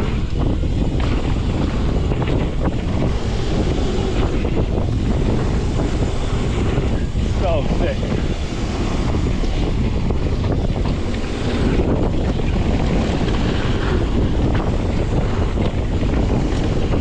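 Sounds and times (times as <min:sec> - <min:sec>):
bike rattling: 0:00.0 - 0:17.0
wind buffeting microphone: 0:00.0 - 0:17.0.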